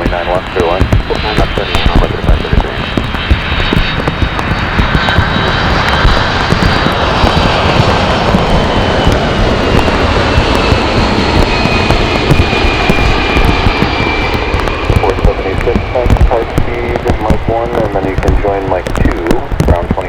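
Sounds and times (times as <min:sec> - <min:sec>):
high whine falling in pitch: 0:00.0 - 0:20.0
jet engines roaring: 0:00.0 - 0:20.0.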